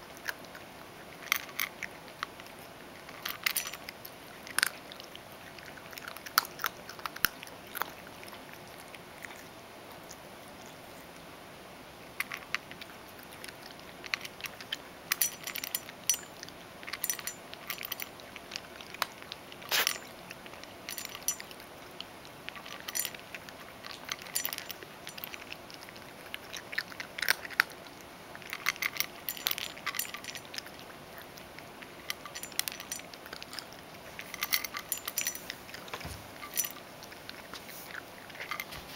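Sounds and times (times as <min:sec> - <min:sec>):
cat crunching dry kibble: 0:00.0 - 0:11.2, 0:12.1 - 0:38.9.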